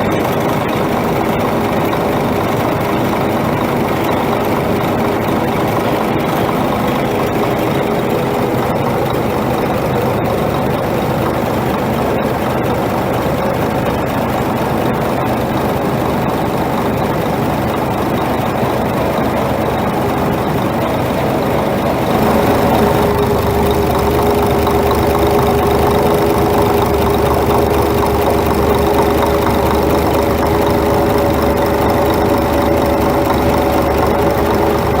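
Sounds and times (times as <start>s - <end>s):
diesel engine idling with knock: 0.0s - 35.0s.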